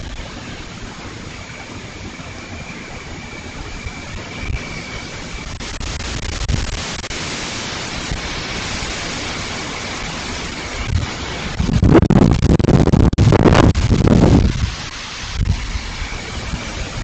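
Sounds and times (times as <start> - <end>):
storm wind through palm trees: 0.0 - 17.0.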